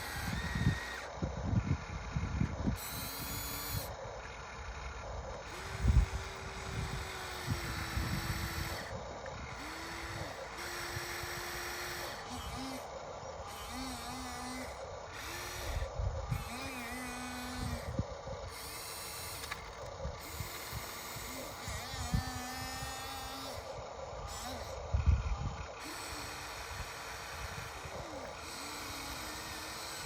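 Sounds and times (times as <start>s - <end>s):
toy excavator motors whining: 0.0s - 30.0s.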